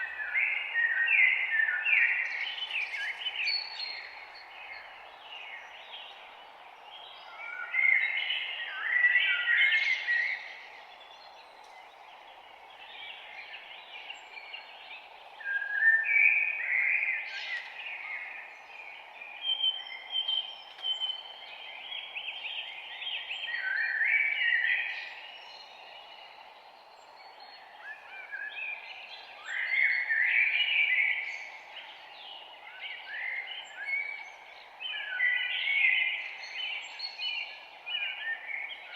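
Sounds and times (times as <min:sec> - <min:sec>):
soft forest background hiss: 0:00.0 - 0:38.9.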